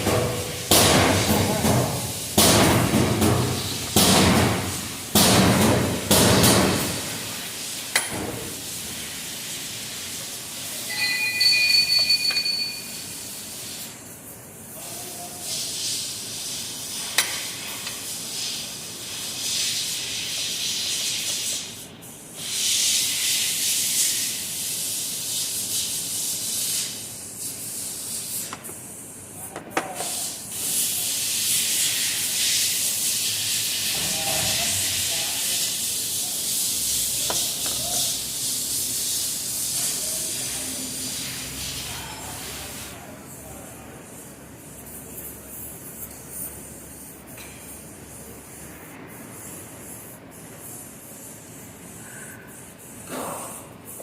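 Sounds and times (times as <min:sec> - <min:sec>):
compressed air hissing: 0:00.0 - 0:10.9, 0:13.0 - 0:54.0.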